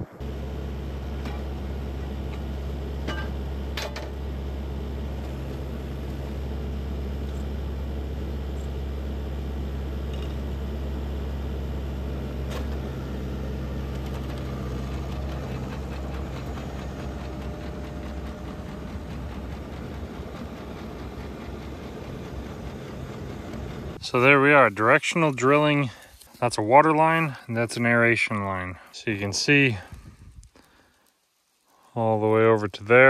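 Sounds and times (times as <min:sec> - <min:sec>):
drill rig engine humming: 0:00.0 - 0:30.8.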